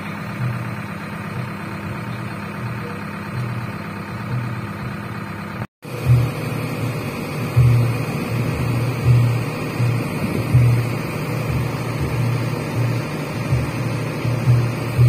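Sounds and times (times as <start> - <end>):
diesel engine throbbing: 0.0 - 15.0.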